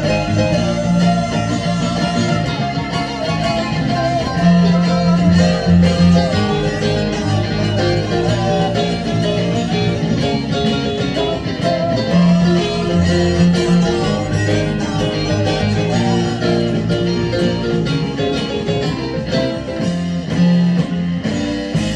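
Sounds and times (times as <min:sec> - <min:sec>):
electronic keyboard chords: 0:00.0 - 0:21.9.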